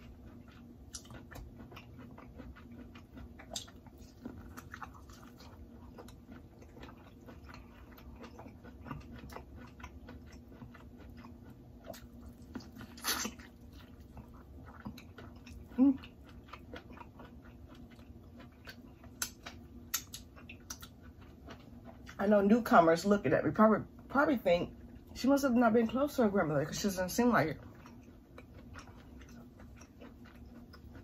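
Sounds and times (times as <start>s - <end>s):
chewing: 0.0s - 22.4s, 25.8s - 31.0s.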